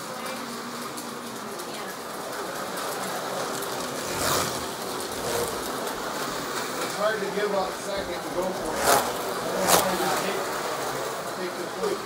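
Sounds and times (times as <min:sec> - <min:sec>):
slot cars whirring: 0:00.0 - 0:12.0.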